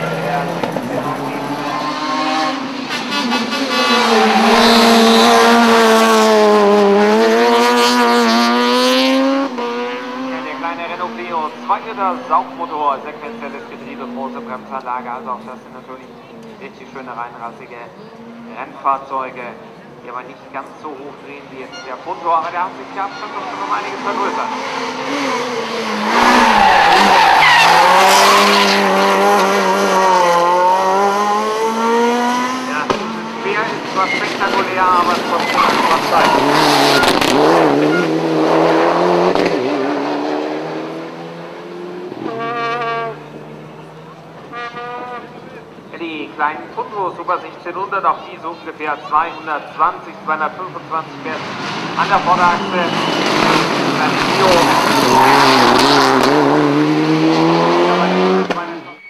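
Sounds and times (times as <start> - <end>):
rally car engine revving: 0.0 - 47.8, 48.6 - 59.0
tyres skidding: 0.0 - 59.0.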